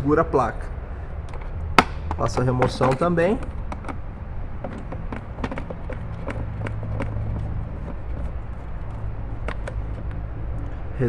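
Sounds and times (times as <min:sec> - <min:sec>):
steady low hum: 0:00.0 - 0:11.0
screwdriver clicks and scrapes: 0:01.3 - 0:10.8.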